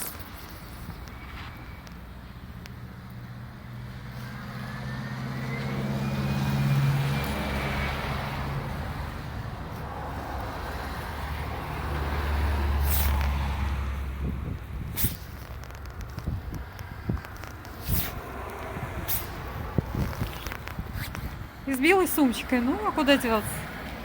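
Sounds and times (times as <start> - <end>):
motor vehicles passing: 0.0 - 24.0.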